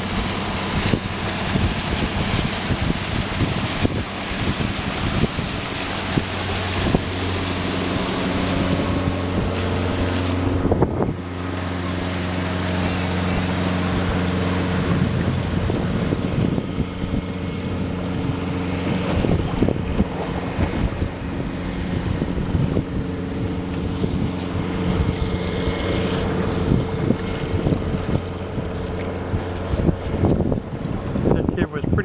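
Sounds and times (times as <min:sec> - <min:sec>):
outboard motor droning: 0:00.0 - 0:32.0
wind buffeting microphone: 0:00.0 - 0:32.0.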